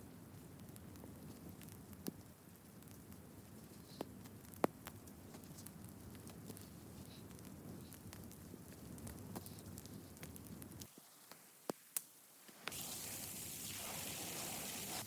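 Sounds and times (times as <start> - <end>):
small wood fire crackling: 0.0 - 15.0
sharp snaps of burning wood: 0.1 - 13.9.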